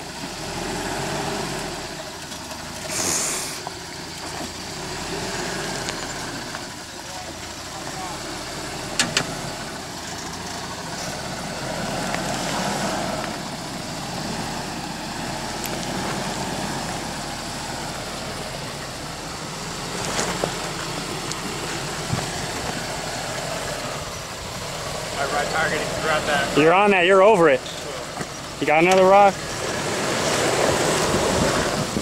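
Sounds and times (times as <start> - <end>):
truck engine running slowly: 0.0 - 32.0.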